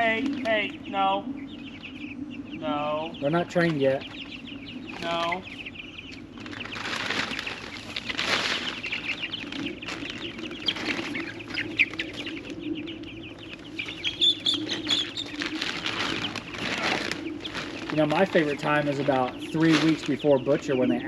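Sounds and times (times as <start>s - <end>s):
chicks peeping: 0.0s - 21.0s
wings flapping and rustling: 0.0s - 21.0s.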